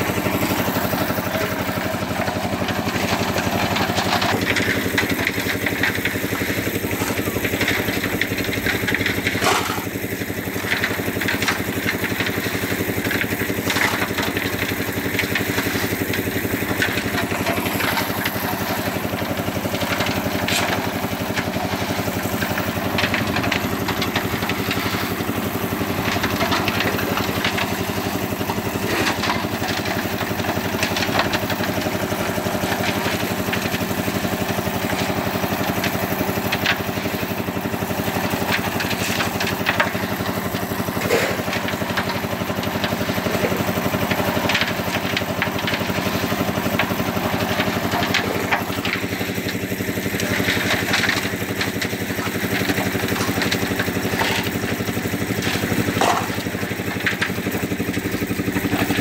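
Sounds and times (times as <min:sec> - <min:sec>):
concrete mixer engine running: 0:00.0 - 0:59.0
shovels and stones scraping: 0:00.0 - 0:59.0.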